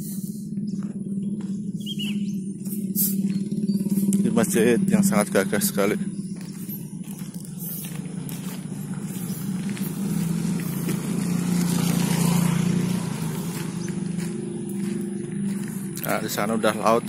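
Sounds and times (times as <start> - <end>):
small motorcycle engine passing: 0.4 - 17.0.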